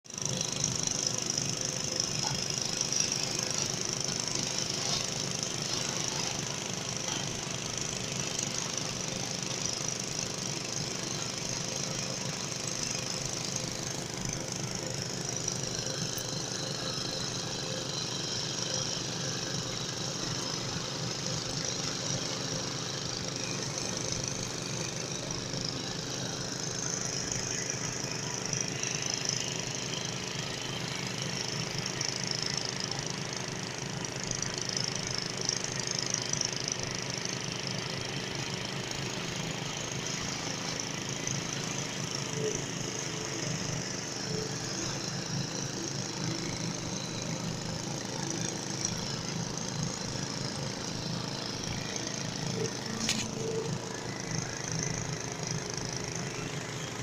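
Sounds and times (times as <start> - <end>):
water pump chugging: 0.1 - 57.0.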